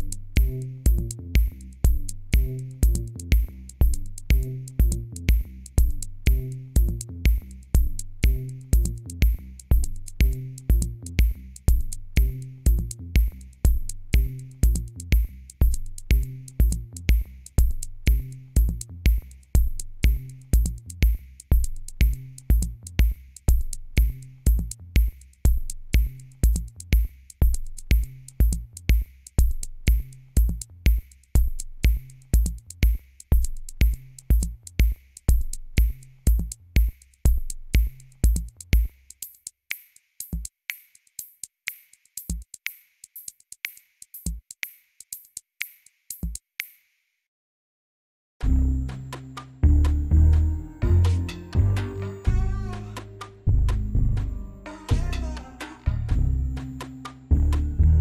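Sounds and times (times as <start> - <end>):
electronic music with drum machine: 0.0 - 46.4, 48.4 - 58.0
hi-hat ticks: 0.0 - 47.1.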